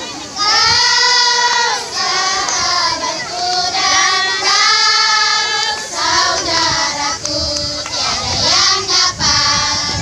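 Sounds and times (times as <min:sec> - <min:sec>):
children singing: 0:00.3 - 0:10.0.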